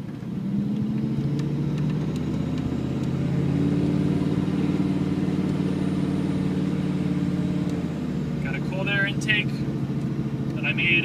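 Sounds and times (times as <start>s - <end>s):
diesel truck engine under load: 0.0s - 11.0s.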